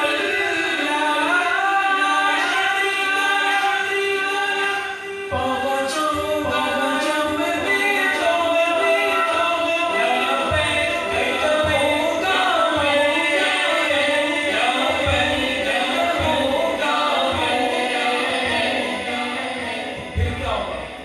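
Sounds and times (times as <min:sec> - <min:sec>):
voices singing a cappella: 0:00.0 - 0:21.0.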